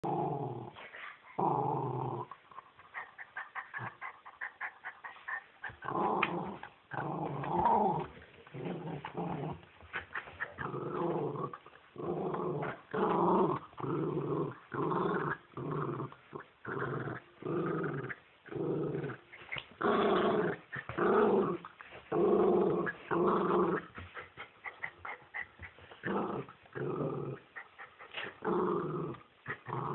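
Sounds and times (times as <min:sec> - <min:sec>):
dog growling: 0:00.0 - 0:29.9.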